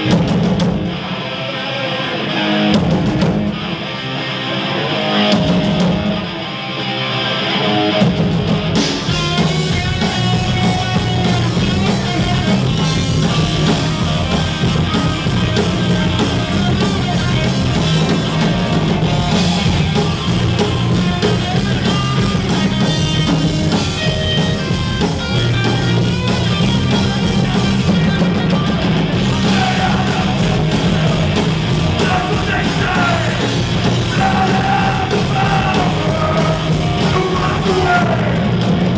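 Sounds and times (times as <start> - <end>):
punk rock band playing live: 0.0 - 38.9.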